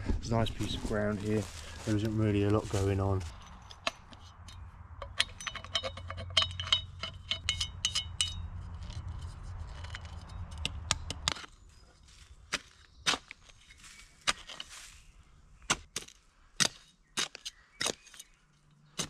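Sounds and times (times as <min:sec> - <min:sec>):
metal shovel digging soil: 0:00.3 - 0:11.8, 0:12.5 - 0:19.0.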